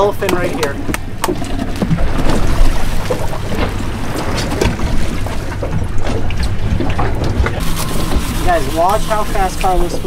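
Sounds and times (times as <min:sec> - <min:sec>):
steady low hum: 0:00.0 - 0:10.0
water moving around boat: 0:00.0 - 0:10.0.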